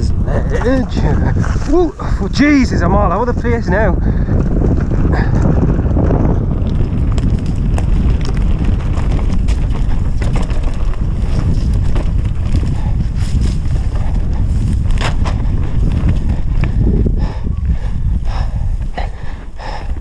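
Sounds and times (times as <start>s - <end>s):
bike clicks and rattles: 0.0s - 20.0s
tyre noise on dirt trail: 0.0s - 20.0s
wind buffeting microphone: 0.0s - 20.0s.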